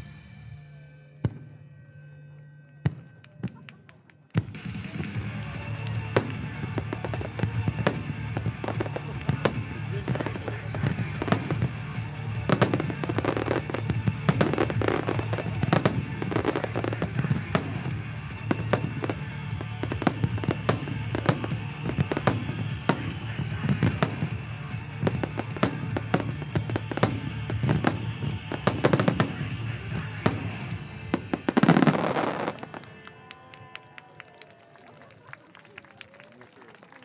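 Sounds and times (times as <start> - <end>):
music playing: 0.0 - 33.8
fireworks bursting and crackling: 3.2 - 33.4.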